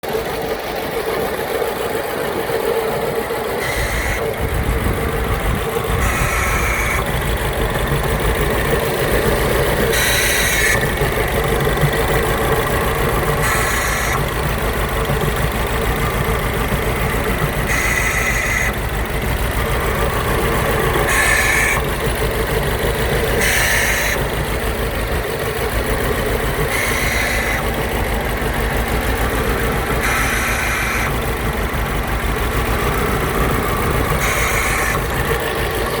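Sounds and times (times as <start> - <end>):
car engine idling with misfire: 0.0 - 36.0.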